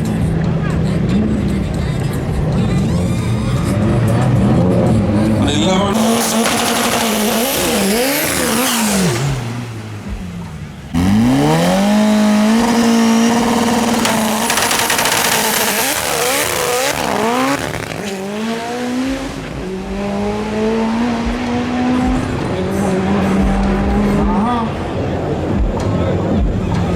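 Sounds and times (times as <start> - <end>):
drag racing car engine revving: 0.1 - 26.9.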